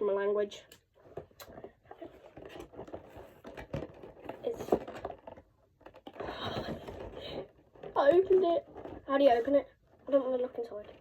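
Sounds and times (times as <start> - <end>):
packaging rustling: 1.4 - 11.0.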